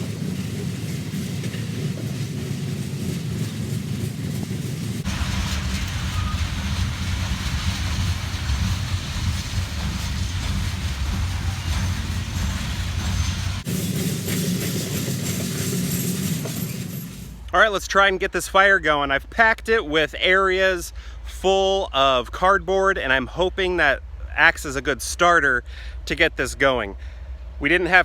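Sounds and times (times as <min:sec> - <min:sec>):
train passing rumble: 0:00.0 - 0:28.0.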